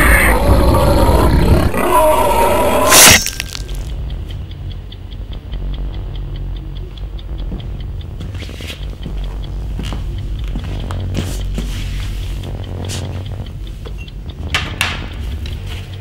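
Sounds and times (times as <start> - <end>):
swelling rumble with wavering tones: 0.0 - 15.9
fast ticking: 0.0 - 16.0
low hum: 0.0 - 16.0.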